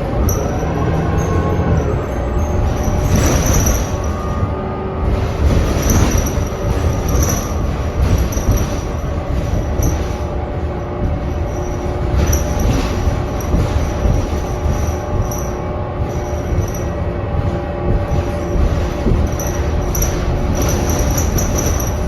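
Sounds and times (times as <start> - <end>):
bus drivetrain rumble: 0.0 - 22.0
steady whining tones: 0.0 - 22.0.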